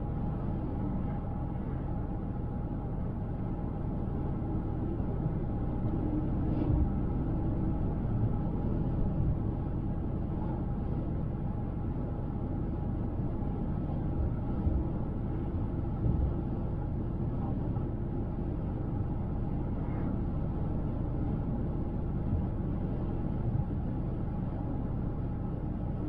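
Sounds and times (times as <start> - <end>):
car road rumble: 0.0 - 26.0.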